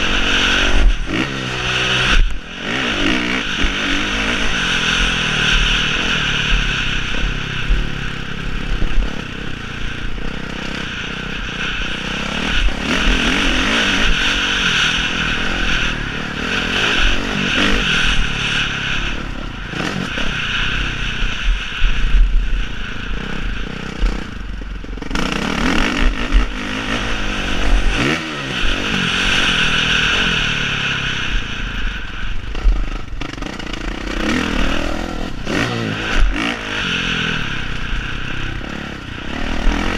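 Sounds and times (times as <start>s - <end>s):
clatter: 0.0s - 39.9s
dirt bike engines revving: 0.0s - 39.9s.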